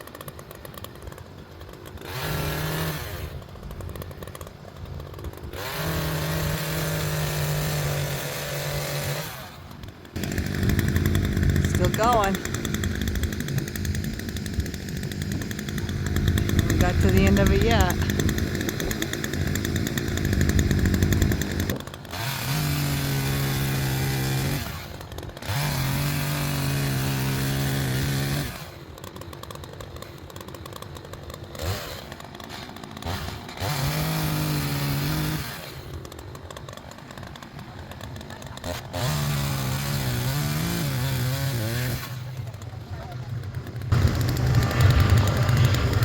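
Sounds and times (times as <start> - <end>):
chainsaw revving and idling: 0.0 - 46.0.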